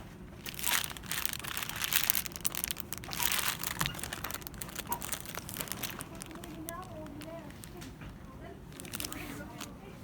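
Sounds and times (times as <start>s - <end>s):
plastic packaging crinkling: 0.3s - 10.0s.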